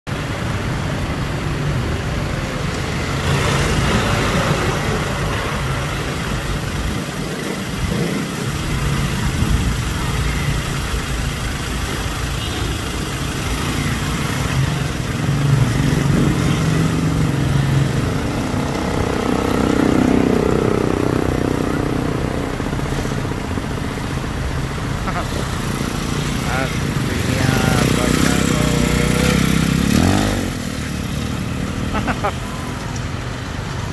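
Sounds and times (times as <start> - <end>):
motorcycle tricycle passing: 0.2 - 33.9.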